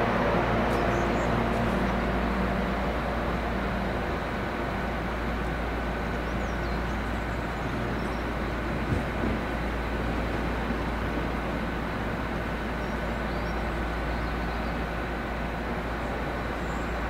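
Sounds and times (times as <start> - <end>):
engine drone: 0.0 - 17.0
train rumble: 0.0 - 17.0.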